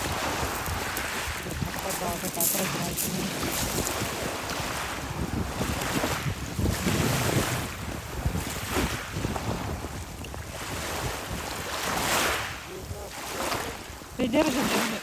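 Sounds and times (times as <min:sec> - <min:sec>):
waves washing over pebbles: 0:00.0 - 0:15.0
wind buffeting microphone: 0:00.0 - 0:15.0.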